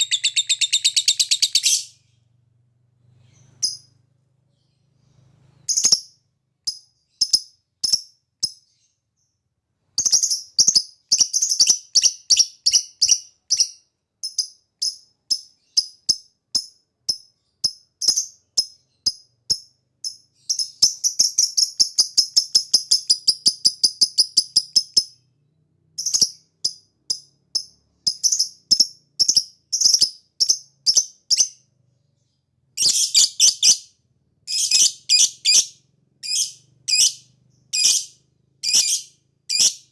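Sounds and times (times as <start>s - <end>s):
lovebird chirping: 0.0s - 2.4s, 3.0s - 39.9s.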